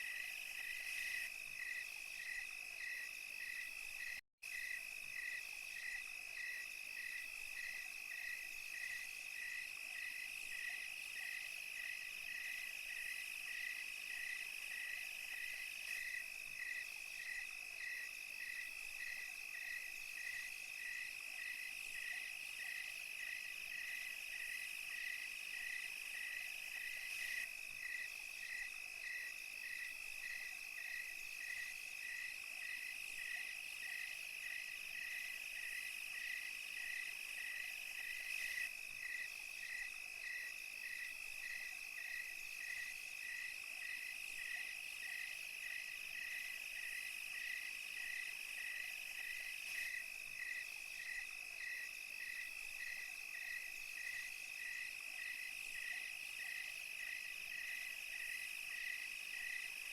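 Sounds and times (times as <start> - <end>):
cricket chirping: 0.0 - 59.9
high insect trill: 0.0 - 59.9.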